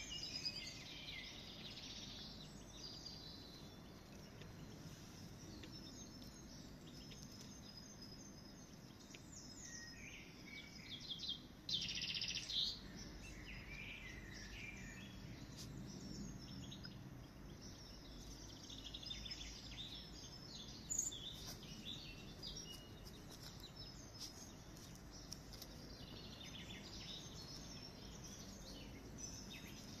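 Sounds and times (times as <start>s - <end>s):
birds chirping: 0.0s - 30.0s
faint outdoor hiss: 0.0s - 30.0s.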